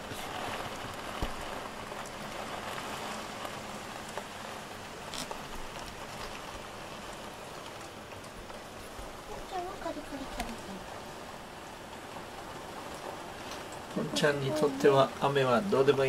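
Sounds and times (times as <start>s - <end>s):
heavy rain on window: 0.0s - 16.0s.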